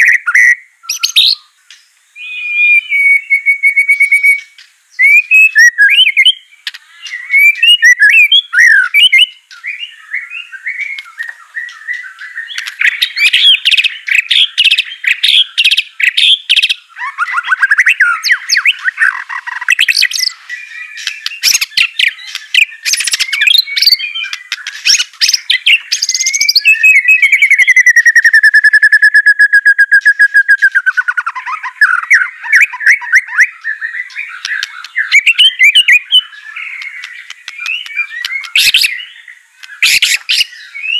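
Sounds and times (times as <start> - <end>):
bird singing whistled phrases: 0.0 - 1.5, 2.2 - 40.9.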